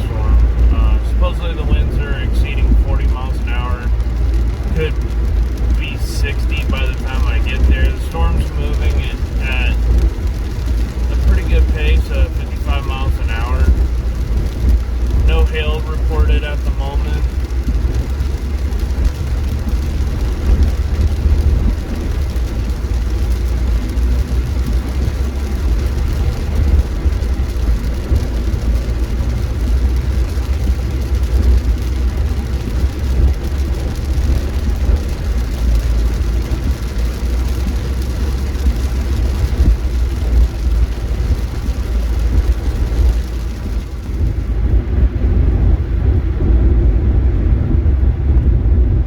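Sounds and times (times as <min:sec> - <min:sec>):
car cabin road and engine drone: 0:00.0 - 0:49.0.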